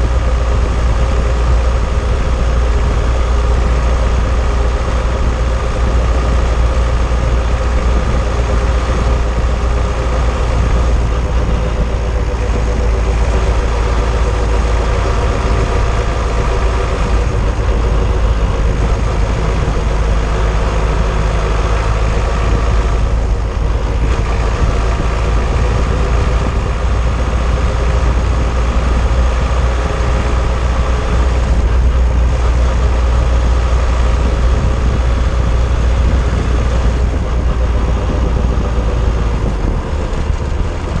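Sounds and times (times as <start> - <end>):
tyre and road noise: 0.0 - 41.0
wind noise: 0.0 - 41.0.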